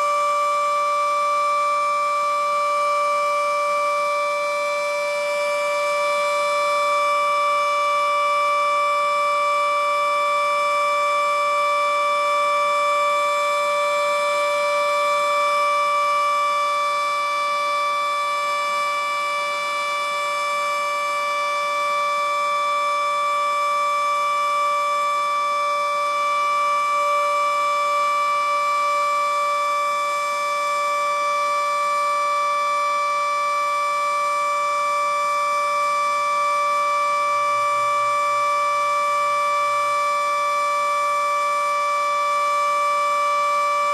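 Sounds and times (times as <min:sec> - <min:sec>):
outdoor warning siren steady tone: 0:00.0 - 0:43.9.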